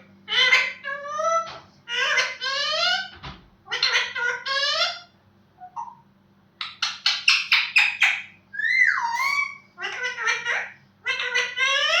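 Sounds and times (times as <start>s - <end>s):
parrot calls: 0.2s - 12.0s.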